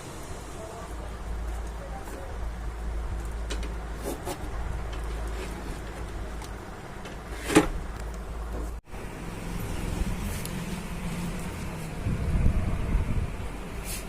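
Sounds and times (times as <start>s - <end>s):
low rumbling: 0.0s - 13.8s.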